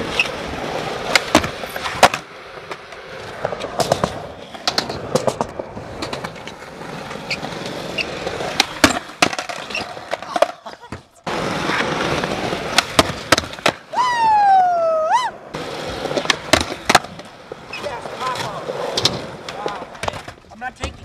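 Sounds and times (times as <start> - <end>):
skateboard clacking on ground: 0.0 - 13.9, 15.5 - 21.0
skateboard wheels rolling on concrete: 0.0 - 21.0.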